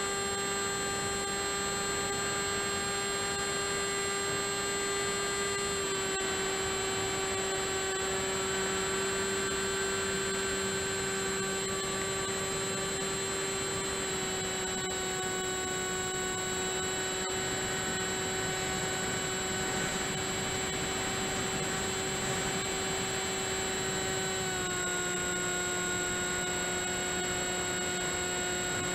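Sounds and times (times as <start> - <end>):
model plane motor whine: 0.0 - 28.9.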